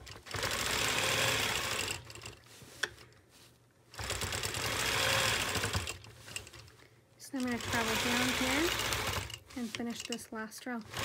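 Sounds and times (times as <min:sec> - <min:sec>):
quilting machine stitching: 0:00.0 - 0:03.0, 0:03.9 - 0:11.0.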